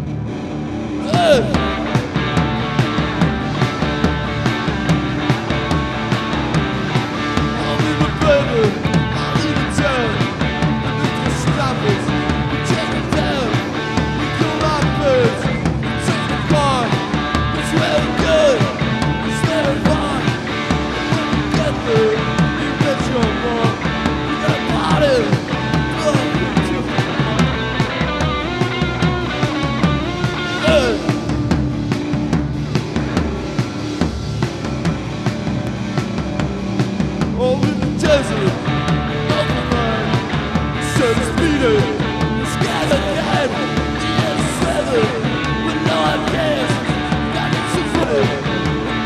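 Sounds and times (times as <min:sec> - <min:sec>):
electric guitar bending notes: 0:00.0 - 0:49.0
rock band playing: 0:00.0 - 0:49.0.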